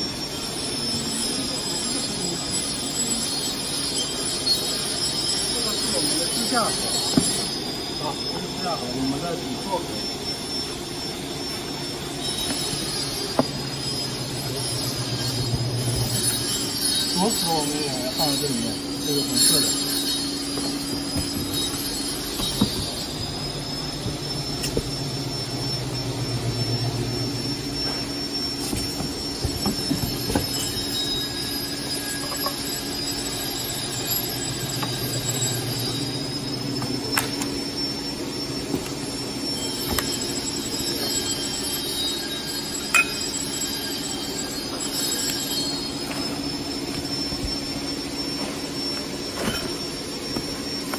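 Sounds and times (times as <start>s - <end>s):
high thin whine: 0.0s - 50.9s
low machinery drone: 0.0s - 50.9s.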